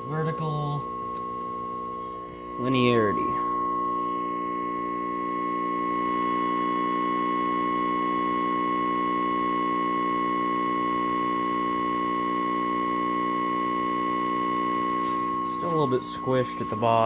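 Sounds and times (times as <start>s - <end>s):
test tone with buzz: 0.0s - 17.0s.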